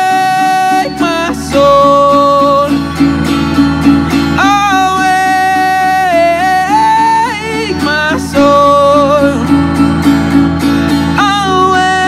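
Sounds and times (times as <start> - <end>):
man singing wordless notes: 0.0 - 3.2, 3.9 - 10.1, 10.8 - 12.0
strummed acoustic guitar: 0.0 - 12.0.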